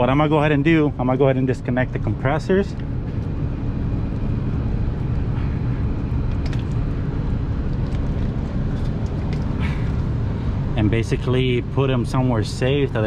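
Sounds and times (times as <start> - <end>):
air conditioner rumbling: 0.0 - 13.0.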